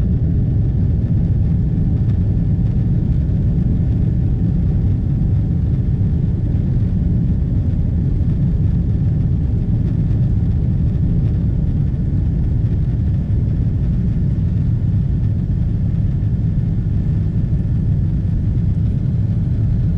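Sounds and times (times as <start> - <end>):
jet engines rumbling: 0.0 - 19.9.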